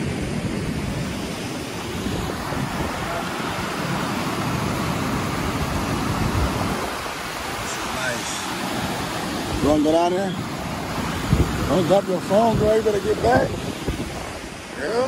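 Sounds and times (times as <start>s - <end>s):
water rushing through spillway: 0.0s - 15.0s.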